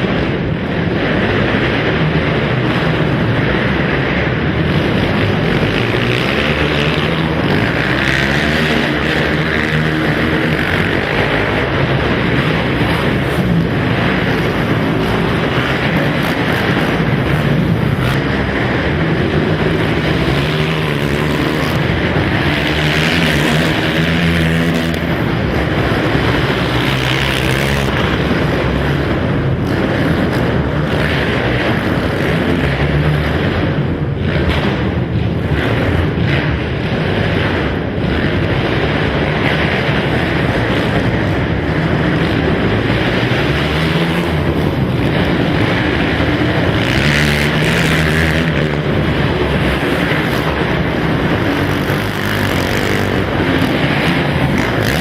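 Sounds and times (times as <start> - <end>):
quad engines revving: 0.0 - 55.0.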